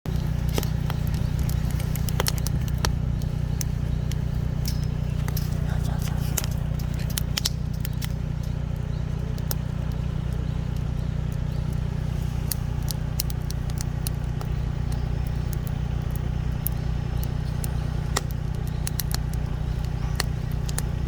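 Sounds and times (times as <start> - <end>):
campfire crackling and popping: 0.0 - 21.0
steady low hum: 0.0 - 21.0.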